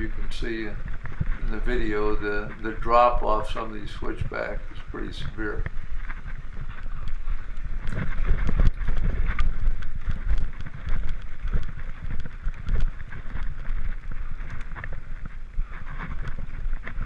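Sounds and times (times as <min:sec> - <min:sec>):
bike rattling: 0:00.0 - 0:17.0
tyres crunching over dirt: 0:00.0 - 0:17.0
wind on microphone: 0:00.0 - 0:17.0.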